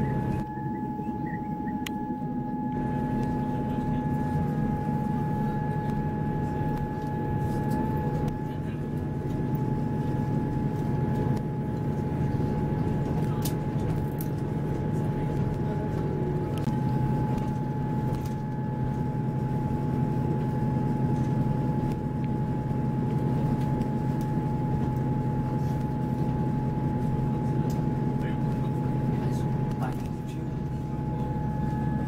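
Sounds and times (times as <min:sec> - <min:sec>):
high whine: 0:00.0 - 0:32.0
train engine and wheels drone: 0:00.0 - 0:32.0.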